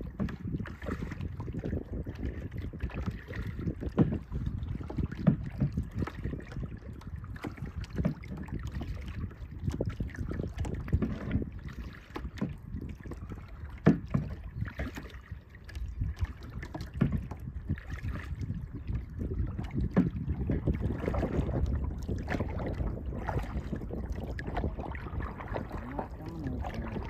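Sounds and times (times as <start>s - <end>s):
paddle splashing water: 0.0s - 27.0s
wind rumble on microphone: 0.0s - 27.0s.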